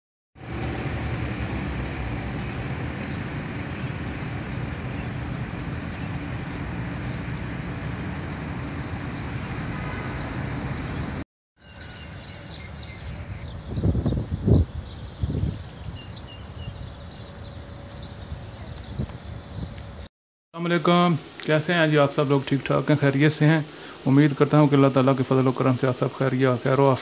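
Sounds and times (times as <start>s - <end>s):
street traffic rumble: 0.4s - 27.0s.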